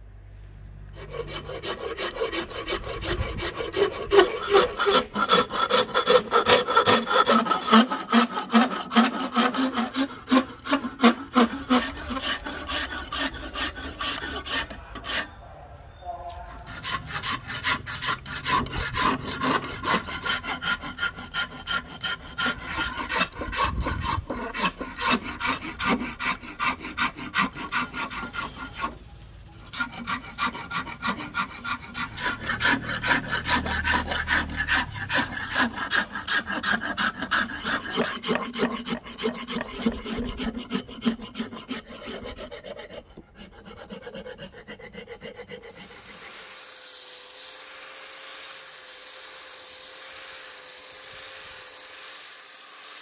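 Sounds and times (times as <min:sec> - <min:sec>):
file rasping on wood: 0:01.0 - 0:15.4, 0:16.6 - 0:29.1, 0:29.7 - 0:53.0.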